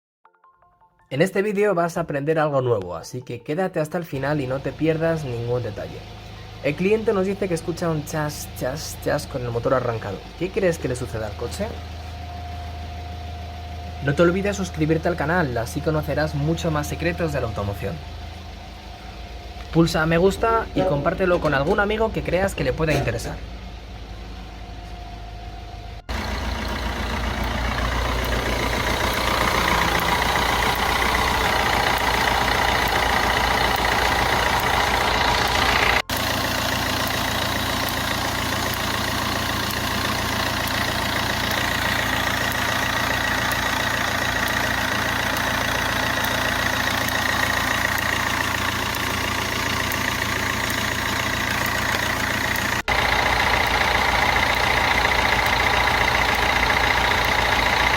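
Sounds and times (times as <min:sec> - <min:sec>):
diesel engine idling: 0:04.1 - 0:57.9.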